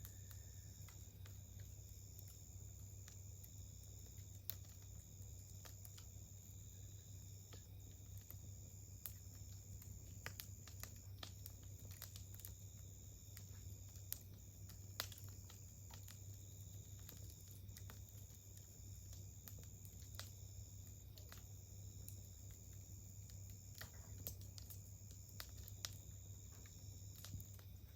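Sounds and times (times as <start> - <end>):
campfire crackling: 0.0 - 27.9.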